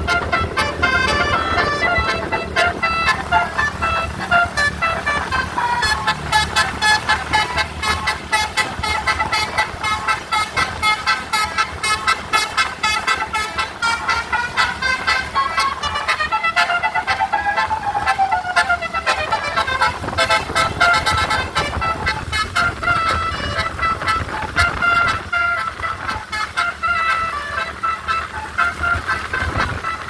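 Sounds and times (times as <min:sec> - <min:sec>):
low steady hum: 0:00.0 - 0:30.0
musical bus horn melody: 0:00.0 - 0:30.0.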